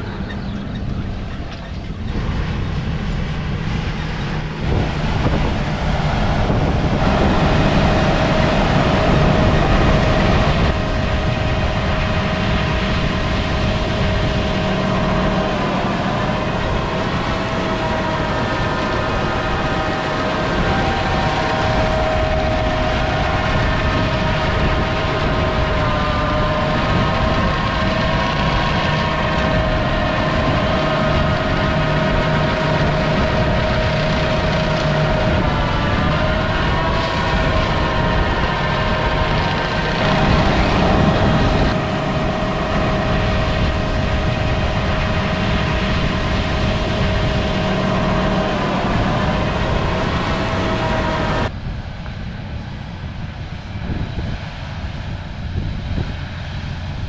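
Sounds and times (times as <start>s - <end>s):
diesel engine drone with whine: 0.0s - 57.0s.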